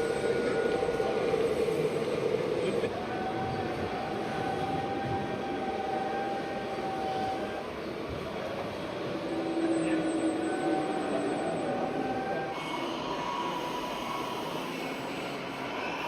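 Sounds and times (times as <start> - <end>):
small electric motors whining: 0.0 - 16.0.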